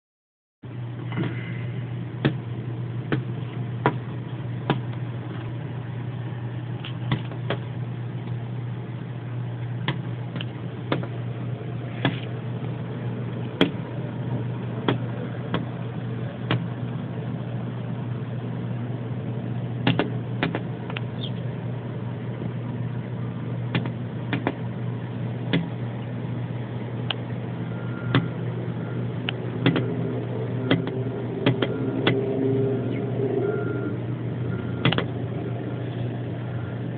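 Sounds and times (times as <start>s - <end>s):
steady low hum: 0.6s - 36.9s.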